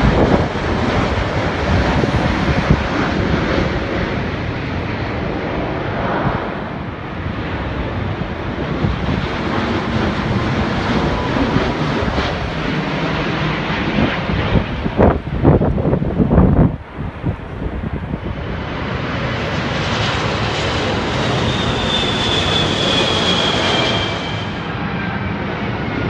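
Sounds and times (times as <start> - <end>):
jet airliners passing overhead: 0.0 - 26.0
wind buffeting microphone: 0.0 - 26.0.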